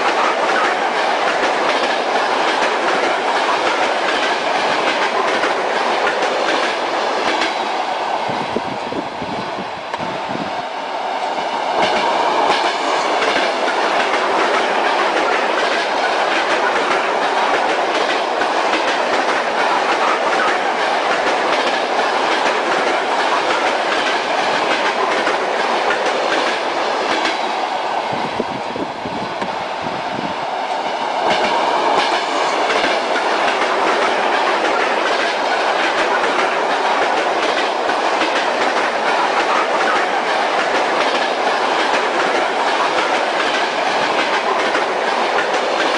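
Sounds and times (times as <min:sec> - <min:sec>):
train wheels clacking over rail joints: 0:00.0 - 0:07.7, 0:11.2 - 0:27.6, 0:30.6 - 0:45.9
train running rumble: 0:00.0 - 0:10.5, 0:11.2 - 0:45.9.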